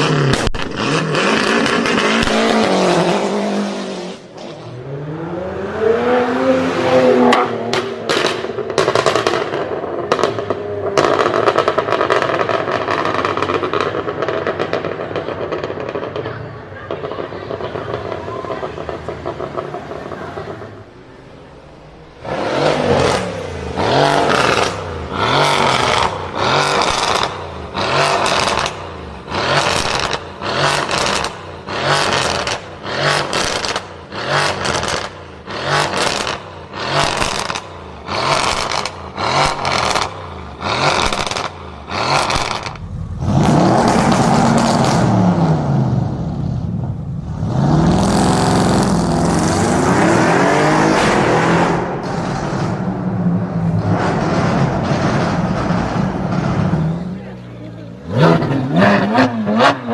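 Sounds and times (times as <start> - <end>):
exhaust crackle: 0.0 - 4.6, 7.0 - 59.9
car engine revving: 0.0 - 59.9.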